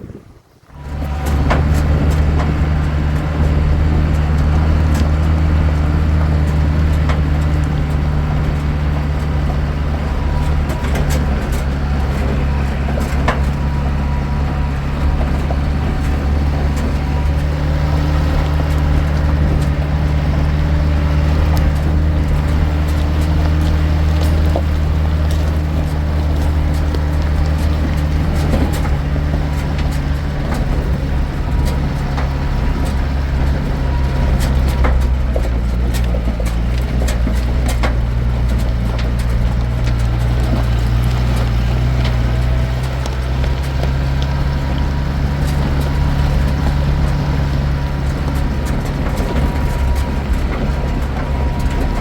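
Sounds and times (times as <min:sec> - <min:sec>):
vehicle engine droning: 0:00.0 - 0:52.0.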